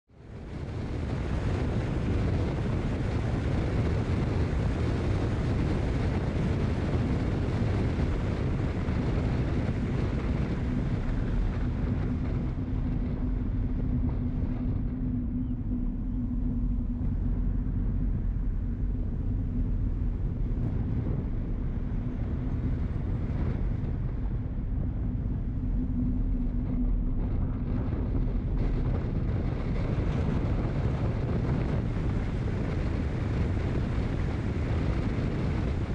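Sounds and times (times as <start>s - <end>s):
steady low hum: 0.1s - 35.9s
wind rushing over microphone: 0.1s - 35.9s
road and engine rumble: 0.2s - 35.9s.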